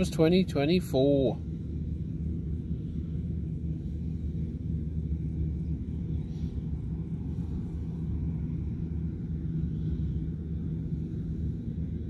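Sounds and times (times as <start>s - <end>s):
distant combine harvester drone: 0.0s - 12.0s.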